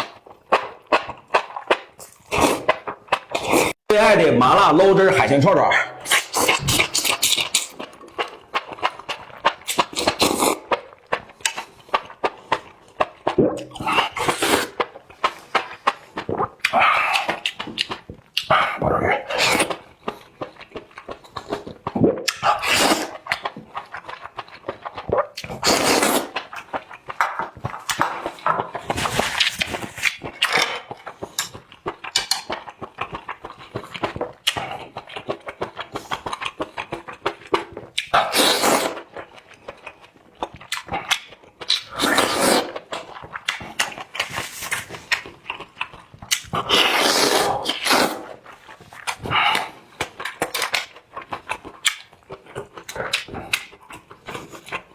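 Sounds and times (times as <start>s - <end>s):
chewing and smacking: 0.0s - 3.8s, 6.0s - 54.9s
wet slurps: 0.0s - 3.8s, 6.0s - 39.8s, 40.4s - 54.9s.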